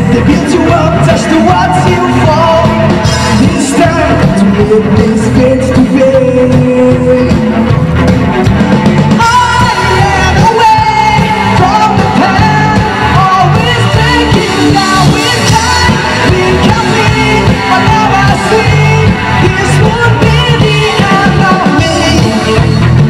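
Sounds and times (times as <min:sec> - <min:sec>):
man singing into a microphone: 0:00.0 - 0:08.0, 0:09.2 - 0:23.0
drums: 0:00.0 - 0:23.0
electric guitar: 0:00.0 - 0:23.0.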